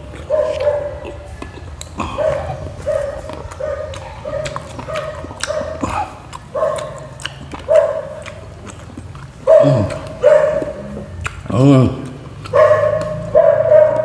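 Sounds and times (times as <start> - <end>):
chewing clicks: 0.0 - 14.0.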